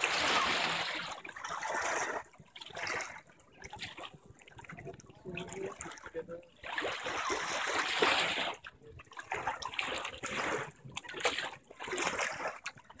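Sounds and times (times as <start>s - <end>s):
water washing over stone: 0.0s - 13.0s.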